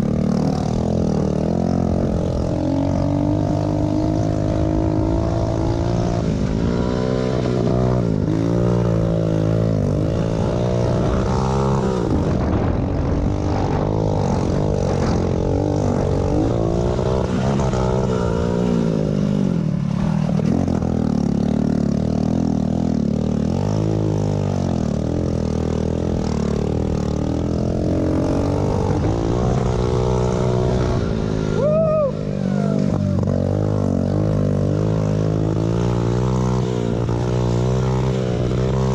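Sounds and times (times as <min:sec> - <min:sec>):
pit bike engines racing: 0:00.0 - 0:38.9.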